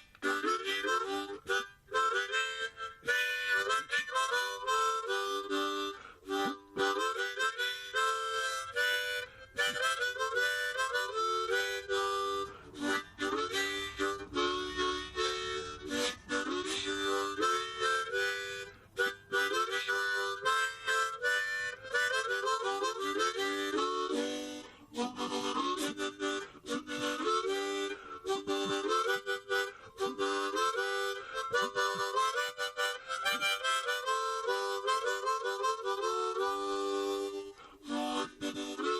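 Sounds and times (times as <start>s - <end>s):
lively instrumental music: 0.0s - 38.9s.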